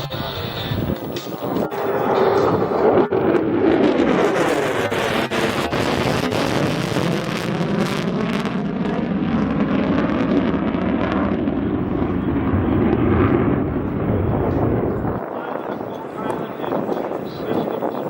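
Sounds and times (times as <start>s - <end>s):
jet bomber engines rumbling: 0.0s - 18.0s.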